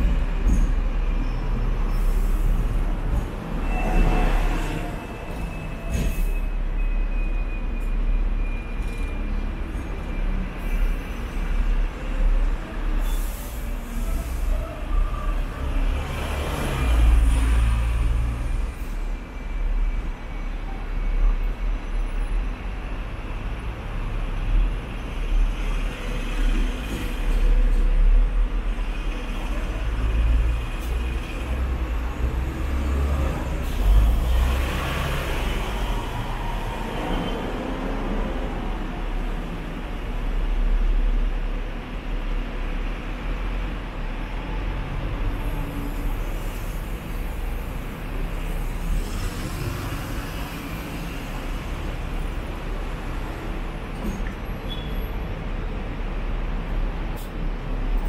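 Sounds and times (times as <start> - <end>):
street traffic: 0.0 - 58.0
tram rumbling: 0.0 - 58.0.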